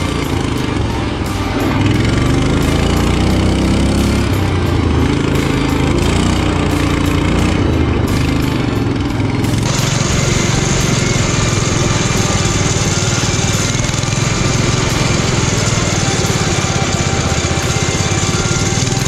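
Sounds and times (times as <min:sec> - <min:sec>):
mower engine running: 0:00.0 - 0:19.0.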